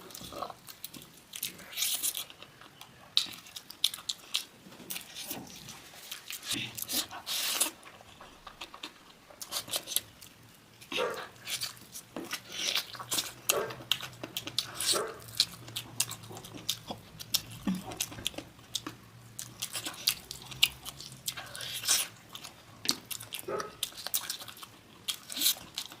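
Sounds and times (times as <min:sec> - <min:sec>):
wet mouth clicks and chewing: 0:00.0 - 0:26.0.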